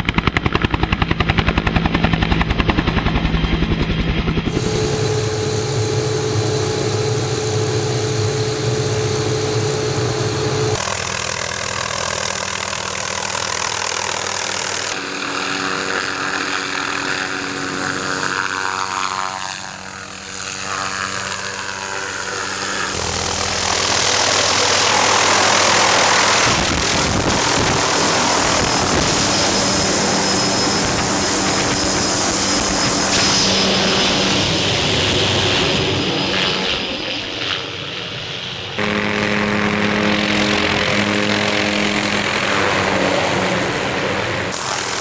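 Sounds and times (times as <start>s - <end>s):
helicopter turbine whine and rotor: 0.0s - 45.0s.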